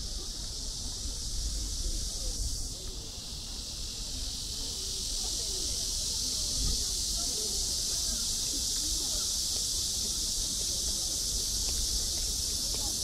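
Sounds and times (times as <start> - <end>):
buzzing insect chorus: 0.0 - 13.0.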